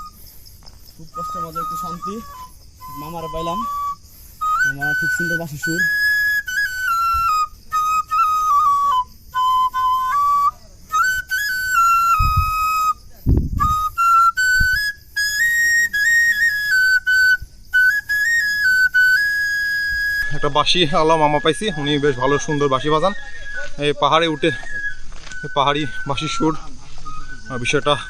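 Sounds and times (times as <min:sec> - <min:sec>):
bamboo flute melody: 0:00.0 - 0:28.0.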